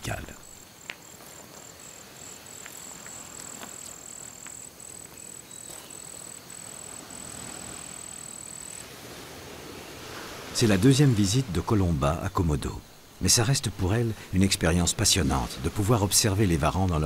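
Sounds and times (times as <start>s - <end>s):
faint outdoor ambience: 0.0s - 17.0s
insect trilling: 0.0s - 17.0s.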